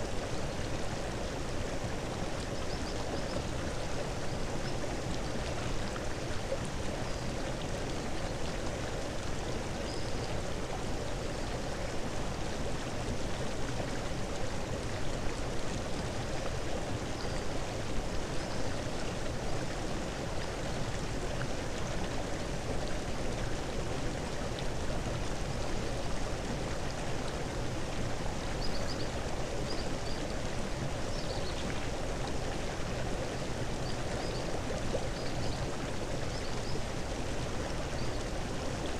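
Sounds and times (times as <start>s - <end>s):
rushing water noise: 0.0s - 38.9s.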